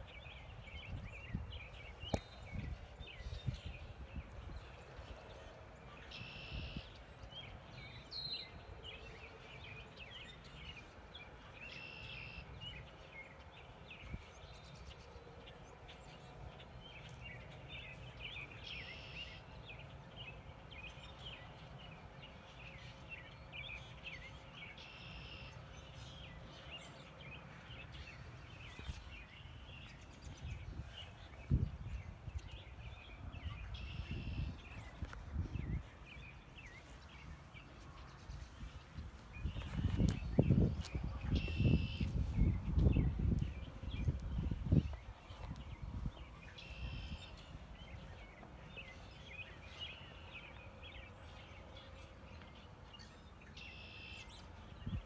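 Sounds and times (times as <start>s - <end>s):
birds chirping: 0.0s - 55.0s
buzzy bird song: 0.0s - 55.0s.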